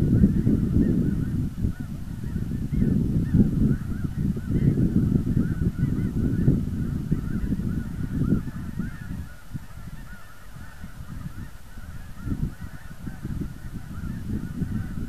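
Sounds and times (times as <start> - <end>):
geese honking: 0.0 - 15.0
wind buffeting microphone: 0.0 - 15.0.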